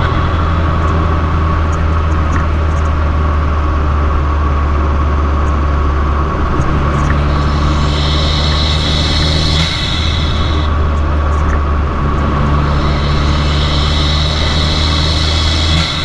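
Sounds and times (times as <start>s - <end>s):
car engine droning while driving: 0.0s - 16.0s.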